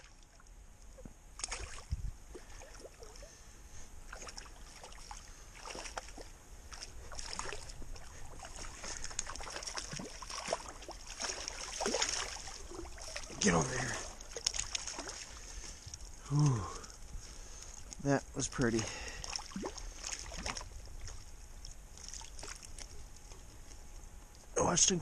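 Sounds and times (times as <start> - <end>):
fish splashing and thrashing: 0.0 - 24.0.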